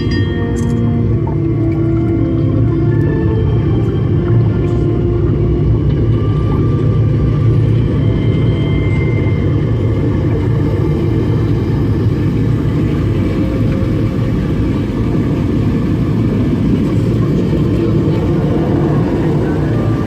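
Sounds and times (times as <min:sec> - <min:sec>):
loud low rumble: 0:00.0 - 0:20.0.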